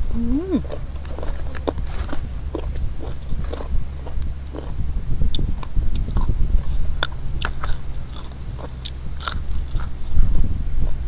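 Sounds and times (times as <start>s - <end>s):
steady low hum: 0.0s - 11.0s
crunchy mouth clicks: 0.1s - 10.2s
chewing and biting: 0.5s - 10.2s.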